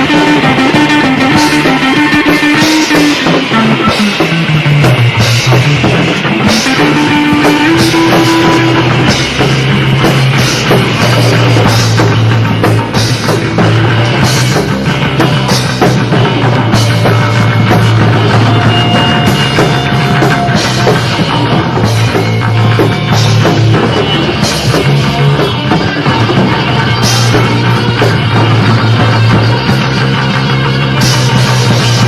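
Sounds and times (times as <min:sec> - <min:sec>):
drum kit and cymbals: 0:00.0 - 0:32.0
low descending bass line: 0:00.0 - 0:32.0
rock band playing live: 0:00.0 - 0:32.0.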